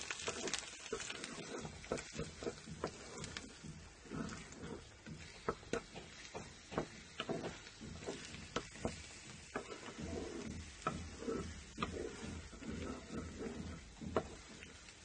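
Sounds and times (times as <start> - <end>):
food sizzling gently: 0.0 - 15.0
spatula scraping a frying pan: 0.0 - 15.0.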